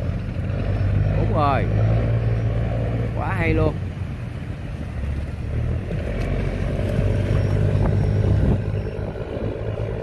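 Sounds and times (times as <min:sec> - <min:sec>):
diesel boat engine chugging: 0:00.0 - 0:10.0.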